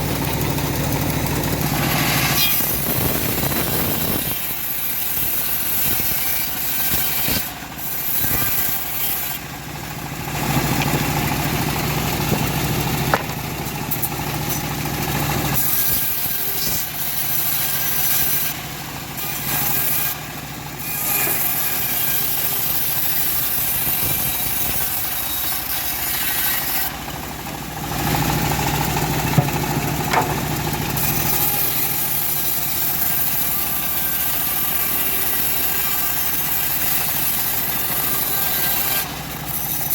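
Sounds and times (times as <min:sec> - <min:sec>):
engine hum: 0:00.0 - 0:04.7, 0:07.4 - 0:17.7, 0:22.9 - 0:39.9
bandsaw blade rasping through log: 0:00.0 - 0:39.9.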